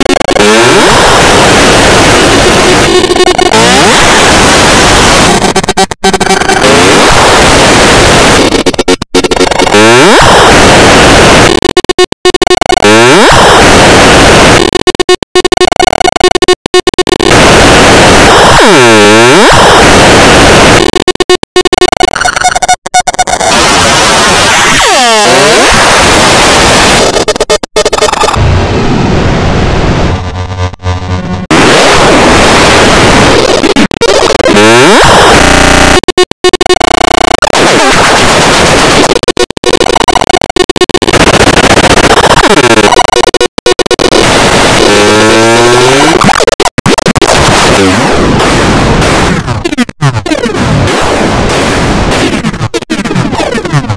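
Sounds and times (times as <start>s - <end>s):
steady electronic tones: 0.0s - 47.5s
harshly distorted cartoon noise: 0.0s - 53.9s.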